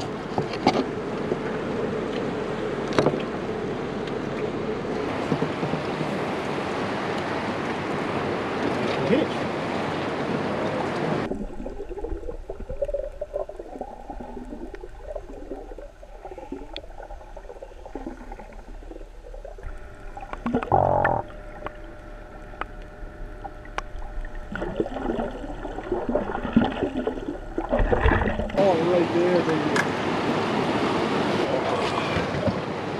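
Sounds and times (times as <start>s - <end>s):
wind and waves: 0.0s - 13.0s, 13.6s - 32.9s
muffled underwater sloshing: 0.0s - 32.9s.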